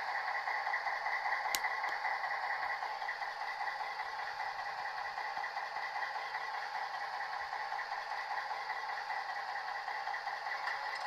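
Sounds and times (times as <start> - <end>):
diesel idling through small speaker: 0.0 - 11.0.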